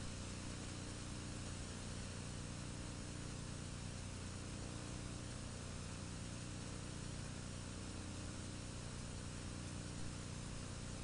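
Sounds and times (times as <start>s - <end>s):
low electrical hum: 0.0s - 11.0s
steady hiss: 0.0s - 11.0s.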